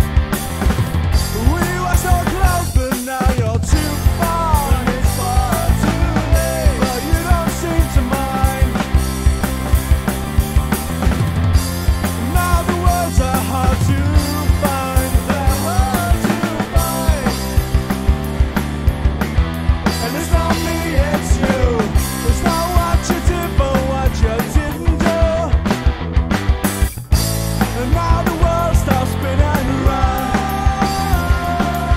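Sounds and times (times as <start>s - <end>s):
rock music: 0.0s - 31.9s.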